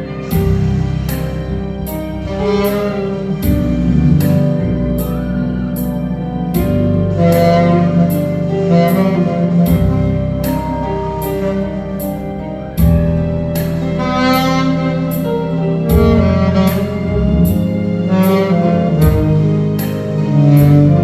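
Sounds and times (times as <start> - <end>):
saxophone melody: 0.0 - 21.0
steady cymbal beat: 0.0 - 21.0.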